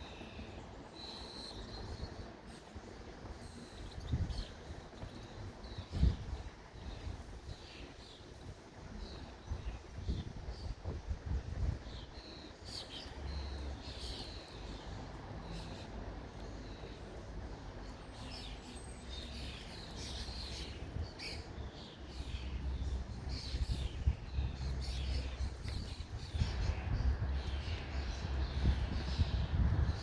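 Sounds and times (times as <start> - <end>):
small birds chirping: 0.0 - 30.0
wind rumble on microphone: 0.0 - 30.0.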